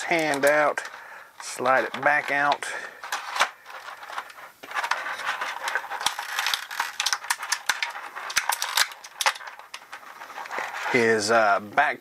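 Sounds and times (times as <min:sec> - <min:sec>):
plastic blister tray crinkling: 0:00.0 - 0:11.3.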